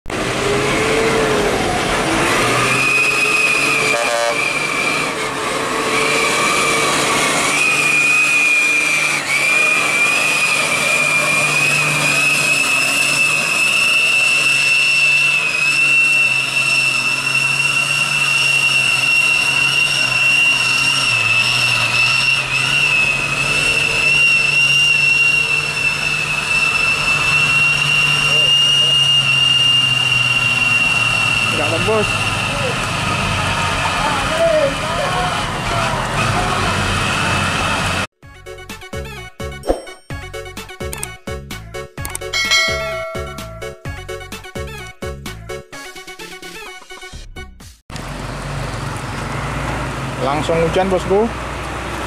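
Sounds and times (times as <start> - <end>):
diesel engine at high revs: 0.1 - 38.2, 47.9 - 52.0.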